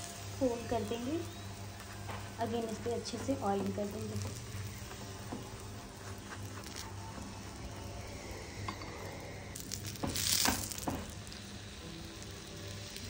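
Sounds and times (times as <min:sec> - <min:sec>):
oil sizzling under flatbread: 0:00.0 - 0:13.0.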